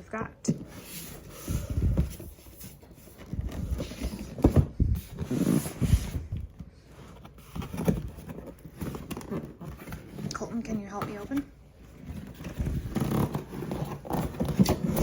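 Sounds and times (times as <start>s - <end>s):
cardboard box being handled: 0.5s - 15.0s.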